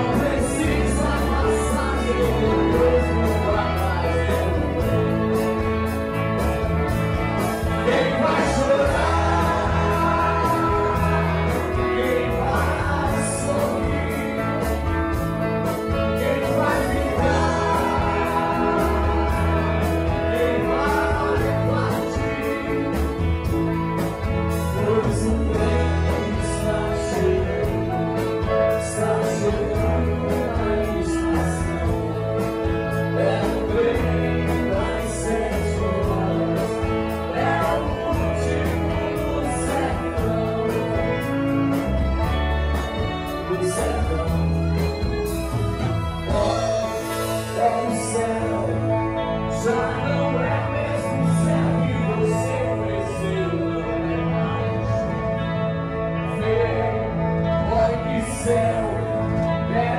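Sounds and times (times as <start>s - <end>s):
electric bass guitar: 0.0s - 59.9s
man singing: 0.0s - 59.9s.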